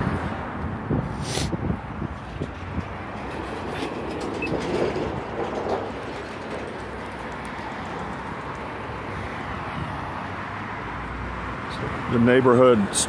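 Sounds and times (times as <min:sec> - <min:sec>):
cars passing: 0:00.0 - 0:13.0
road noise: 0:00.0 - 0:13.0.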